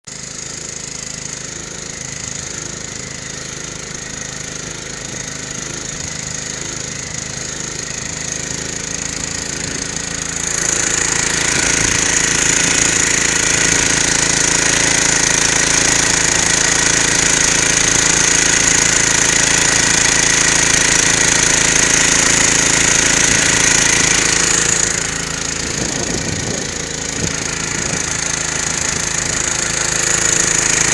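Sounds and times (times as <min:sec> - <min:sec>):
outboard boat motor running: 0:00.0 - 0:30.9.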